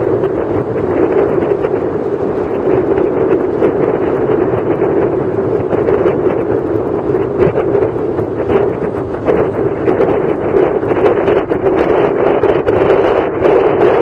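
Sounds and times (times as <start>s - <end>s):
wind blowing across microphone: 0.0s - 14.0s.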